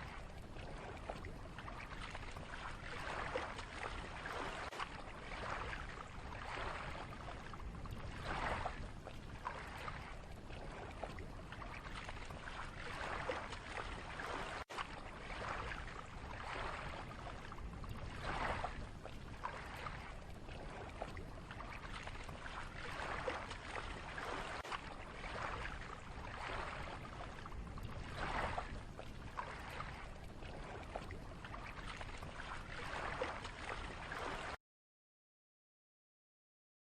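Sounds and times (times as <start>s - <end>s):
lake water lapping: 0.0s - 34.6s.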